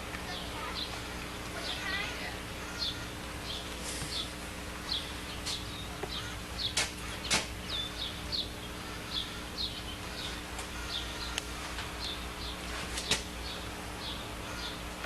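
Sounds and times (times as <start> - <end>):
steady low hum: 0.0 - 15.0
bird chirping: 1.6 - 14.9.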